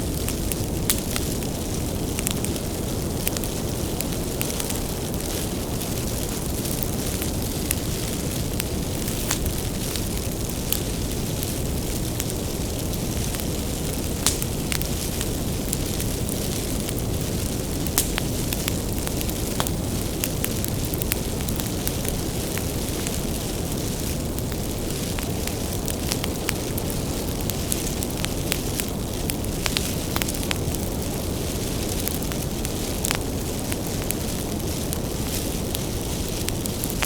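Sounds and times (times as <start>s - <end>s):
fire crackling and popping: 0.0s - 37.0s
low rumble of flames: 0.0s - 37.0s.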